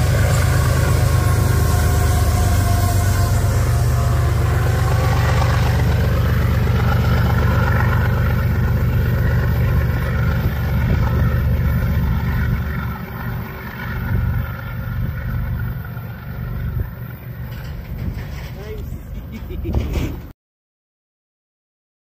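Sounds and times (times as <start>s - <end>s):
heavy vehicle engine rumbling: 0.0s - 20.3s.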